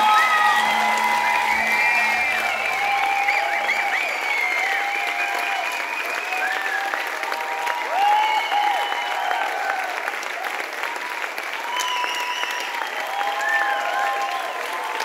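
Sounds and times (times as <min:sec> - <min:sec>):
audience applauding: 0:00.0 - 0:15.0
cheers and whoops: 0:00.0 - 0:15.0.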